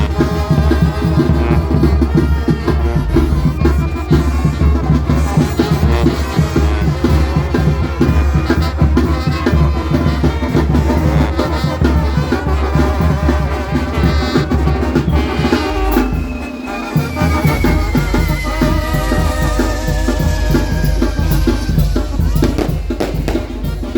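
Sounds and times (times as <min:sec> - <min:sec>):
music with drumbeat and heavy bass: 0:00.0 - 0:23.9.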